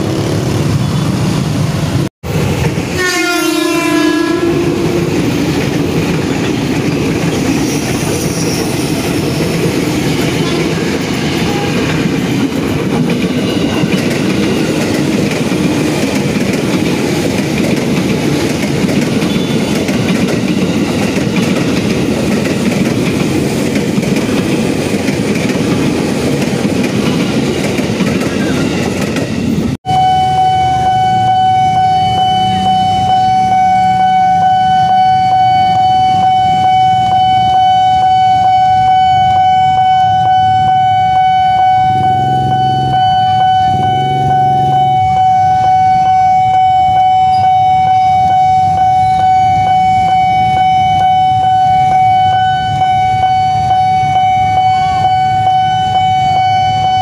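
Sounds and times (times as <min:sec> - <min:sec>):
electric train passing: 0:00.0 - 0:57.0
level-crossing warning alarm: 0:03.0 - 0:29.1, 0:29.8 - 0:57.0.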